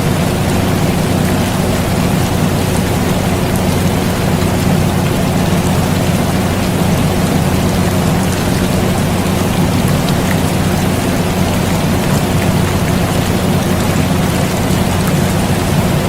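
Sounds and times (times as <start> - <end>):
air conditioner humming: 0.0 - 16.0
rain falling: 0.0 - 16.0.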